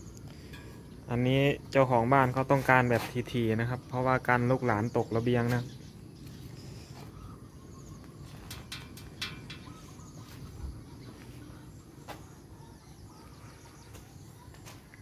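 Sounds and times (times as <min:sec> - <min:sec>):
steady low rumble: 0:00.0 - 0:14.5
faint high bird chirps: 0:00.0 - 0:15.0.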